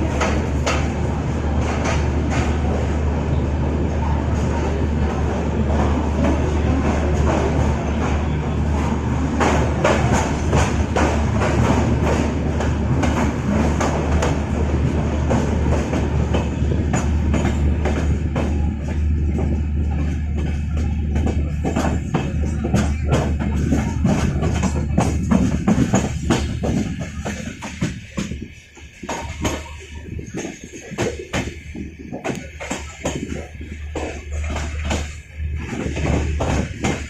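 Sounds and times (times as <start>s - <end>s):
train rumbling: 0.0s - 37.0s
train wheels clicking over rails: 0.0s - 37.0s.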